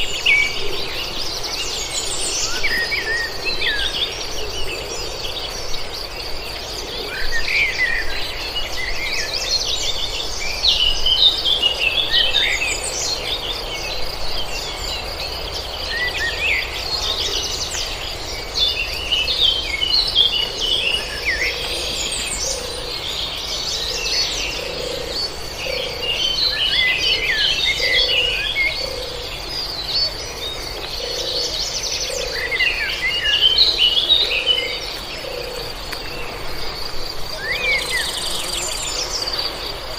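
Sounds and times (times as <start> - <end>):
birds chirping and singing: 0.0 - 39.9
insect trill: 0.0 - 39.9.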